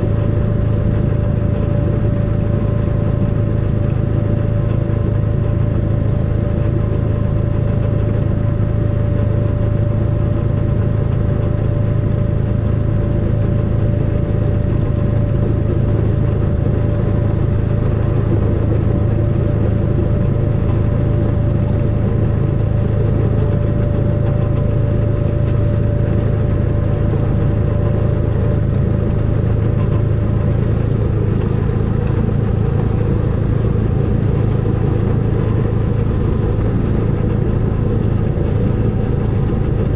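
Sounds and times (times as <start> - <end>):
engine low hum: 0.0 - 39.9.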